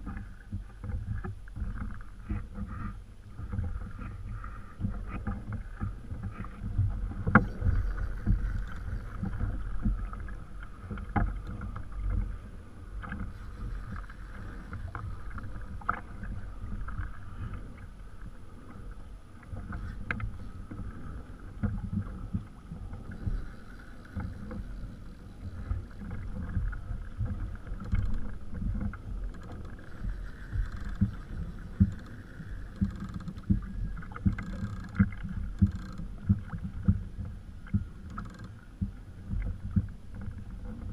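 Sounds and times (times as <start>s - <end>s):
waves slapping kayak hull: 0.0s - 40.9s.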